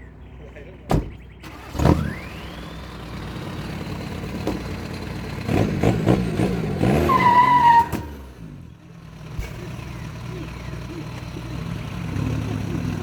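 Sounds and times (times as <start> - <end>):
truck engine revving: 1.4 - 13.0.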